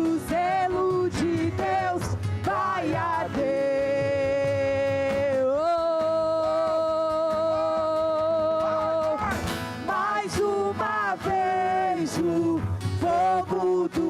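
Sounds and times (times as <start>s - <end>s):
lead singer singing: 0.0s - 14.0s
worship band music: 0.0s - 14.0s.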